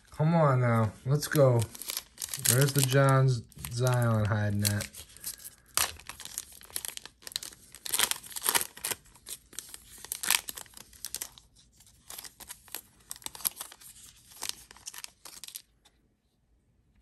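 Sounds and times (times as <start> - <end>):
foil wrapper tearing and crinkling: 1.2 - 15.8.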